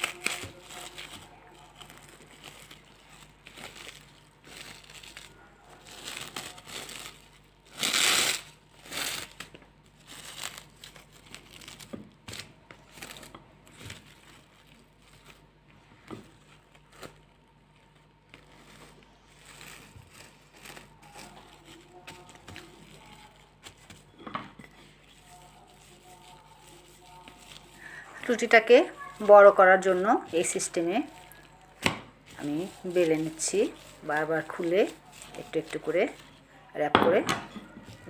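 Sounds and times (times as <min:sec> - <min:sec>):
plastic cling wrap crinkling: 0:00.0 - 0:38.0.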